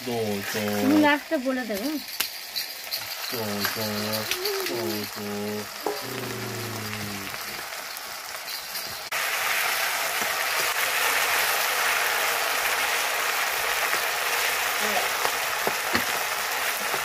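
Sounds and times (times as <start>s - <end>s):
oil sizzling in a wok: 0.0s - 17.0s.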